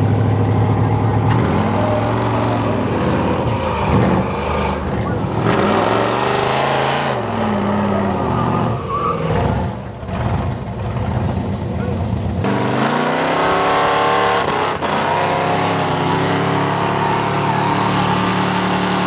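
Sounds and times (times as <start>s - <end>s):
truck engines revving hard: 0.0s - 19.0s.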